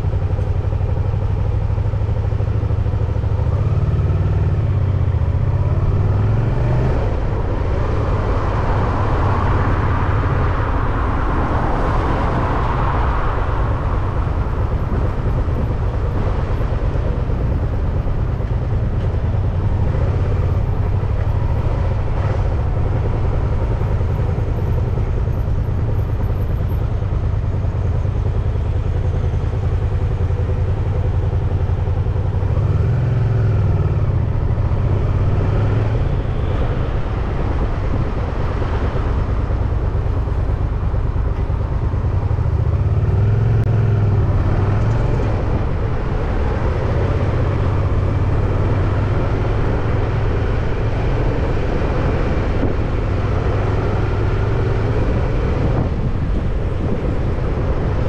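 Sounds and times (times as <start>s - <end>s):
road traffic: 0.0s - 58.0s
wind rumble on microphone: 4.5s - 58.0s.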